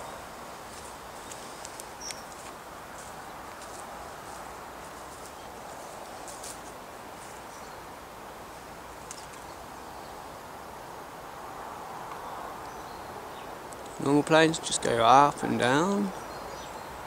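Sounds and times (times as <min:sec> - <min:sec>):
small birds chirping: 0:00.0 - 0:10.6, 0:11.2 - 0:17.0
outdoor background hiss: 0:00.0 - 0:17.0.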